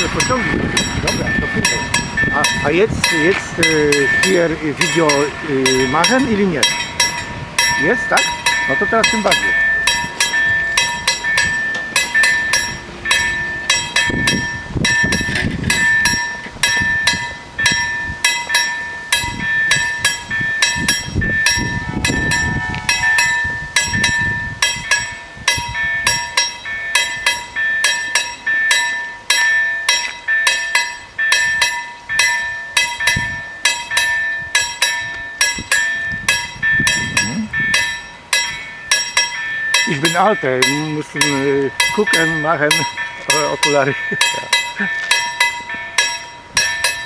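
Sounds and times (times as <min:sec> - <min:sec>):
level crossing warning bells: 0:00.0 - 0:47.0.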